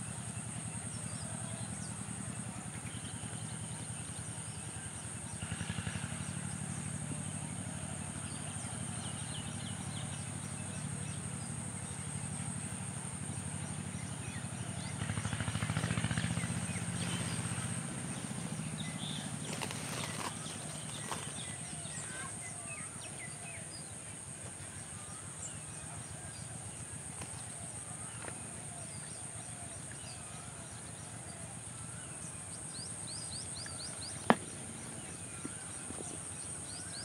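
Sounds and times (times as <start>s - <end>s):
engine low pulsing hum: 0.0s - 37.0s.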